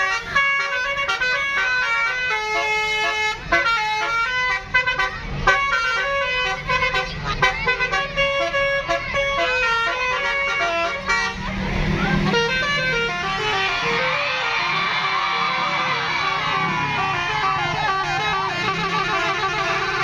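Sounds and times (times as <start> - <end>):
bus air horns playing melodies: 0.0 - 20.0.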